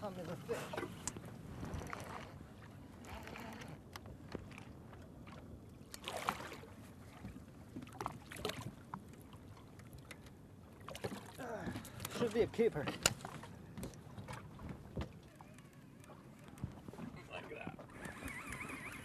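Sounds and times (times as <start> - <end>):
faint wind: 0.0 - 19.0
water noise: 0.0 - 19.0.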